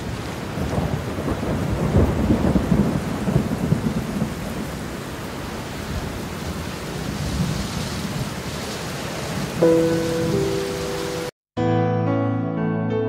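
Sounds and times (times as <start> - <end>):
heavy rain on wet pavement: 0.0 - 11.3.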